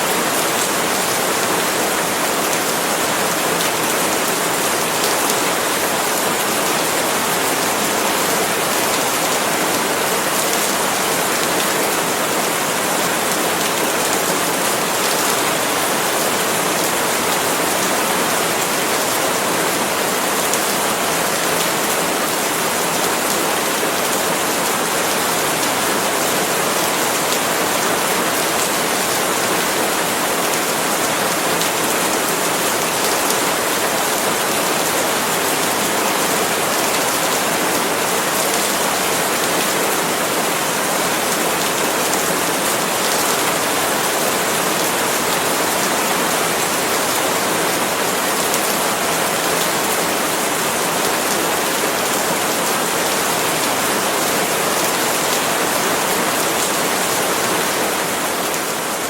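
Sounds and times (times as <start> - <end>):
heavy rain on palm leaves: 0.0 - 59.0.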